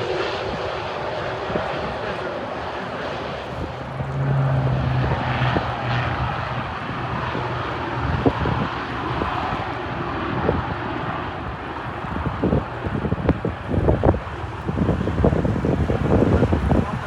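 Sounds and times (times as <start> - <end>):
propeller airplane engine droning: 0.0 - 17.0
steady rushing noise: 0.0 - 17.0.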